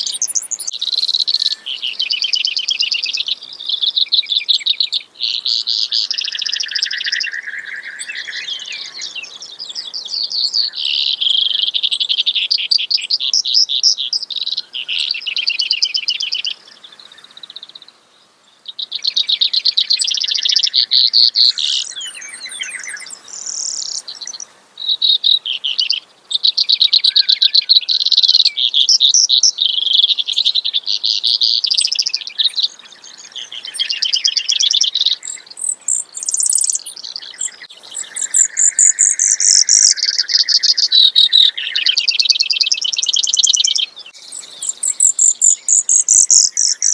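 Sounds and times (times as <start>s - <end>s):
sparrow singing trills: 0.0s - 18.0s, 18.6s - 46.9s.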